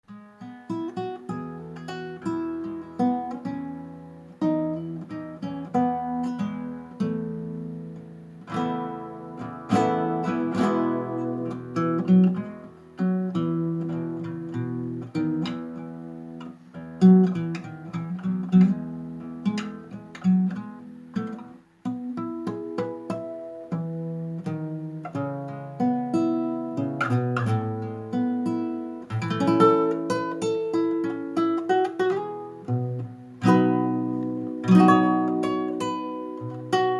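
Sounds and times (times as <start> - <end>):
gentle acoustic guitar music: 0.0 - 36.9.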